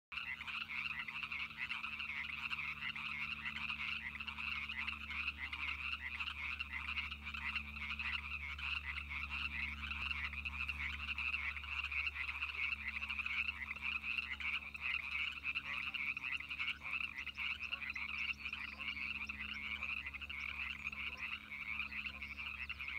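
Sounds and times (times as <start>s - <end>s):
frogs calling: 0.2s - 22.9s.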